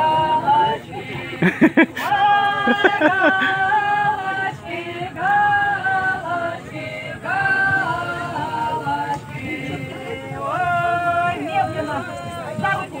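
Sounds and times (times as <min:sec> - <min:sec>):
unaccompanied voices singing: 0:00.0 - 0:13.0.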